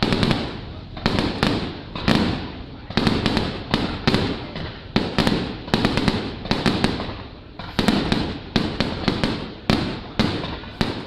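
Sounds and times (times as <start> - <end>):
fireworks bursting with echoing bangs: 0.0 - 11.0.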